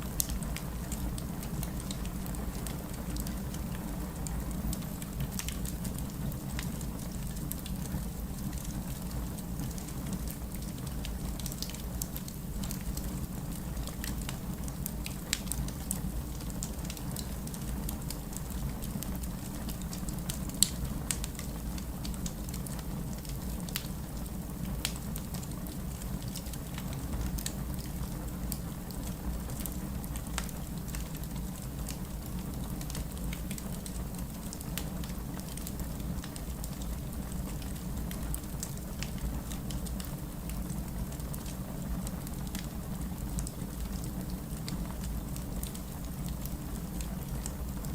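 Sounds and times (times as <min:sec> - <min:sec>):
fireplace crackling: 0:00.0 - 0:47.9
rain rumbling: 0:00.0 - 0:47.9.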